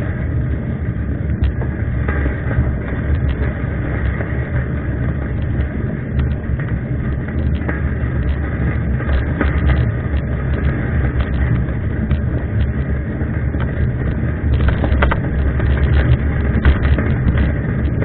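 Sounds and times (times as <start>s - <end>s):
wind buffeting microphone: 0.0s - 18.0s
bike clicks and rattles: 2.5s - 18.0s.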